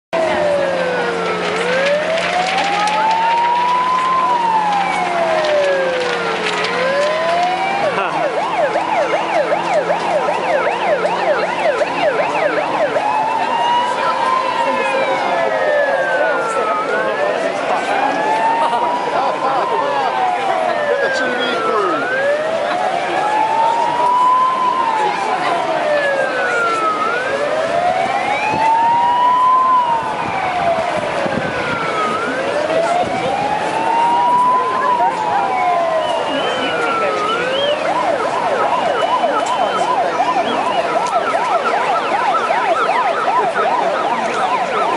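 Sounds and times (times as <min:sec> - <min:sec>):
siren in fast yelp mode: 0:00.2 - 0:44.9.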